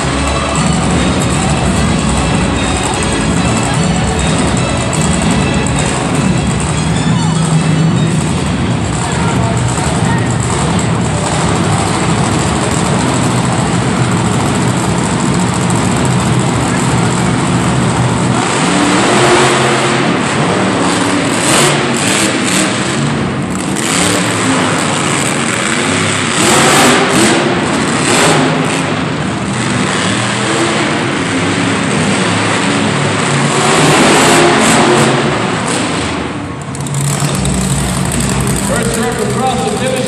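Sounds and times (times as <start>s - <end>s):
monster truck engines revving: 0.0s - 40.0s.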